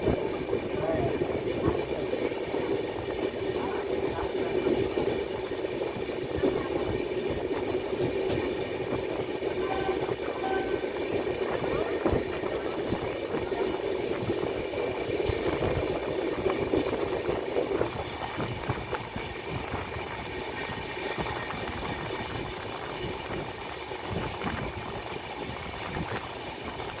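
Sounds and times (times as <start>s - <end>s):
clacks over rail joints: 0.0s - 27.0s
wheel on rail rumble: 0.0s - 27.0s.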